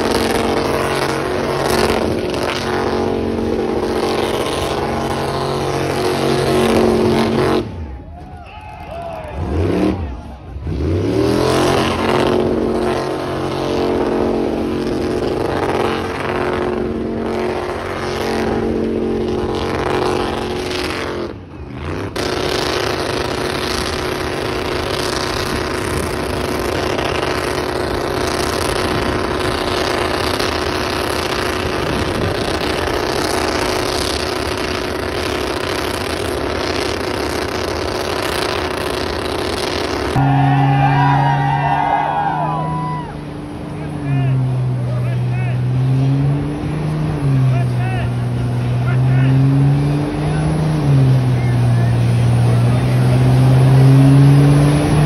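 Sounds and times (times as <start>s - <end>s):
truck engine revving high: 0.0s - 55.0s.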